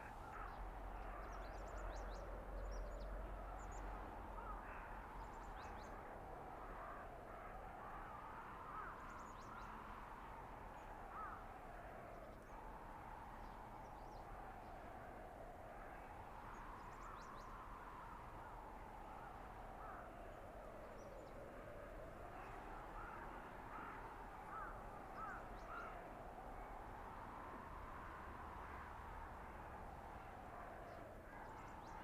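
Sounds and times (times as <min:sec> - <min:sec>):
blizzard wind howling: 0:00.0 - 0:32.0.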